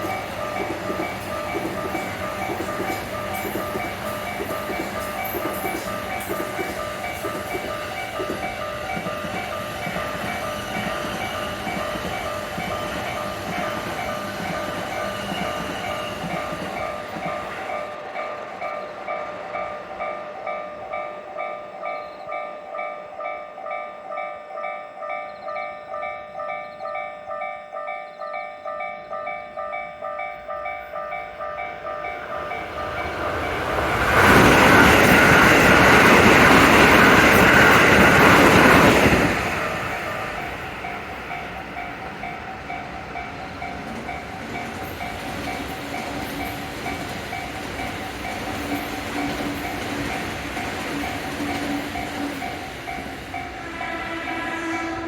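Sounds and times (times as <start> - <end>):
level-crossing warning bells: 0.0 - 55.0
train passing: 0.0 - 55.0.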